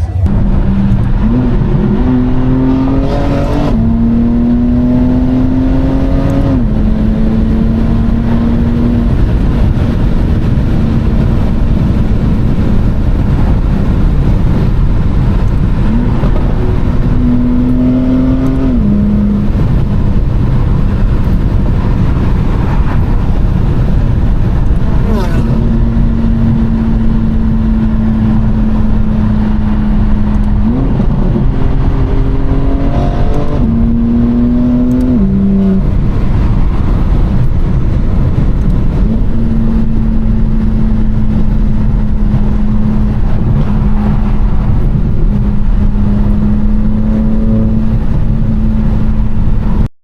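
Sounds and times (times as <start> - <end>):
car engine drone: 0.0 - 50.0.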